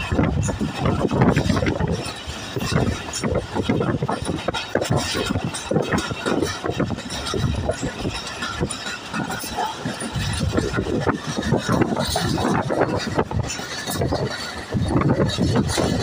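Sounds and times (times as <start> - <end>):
knocks and rattles: 0.0 - 16.0
train wheels rumbling and clattering: 0.0 - 16.0.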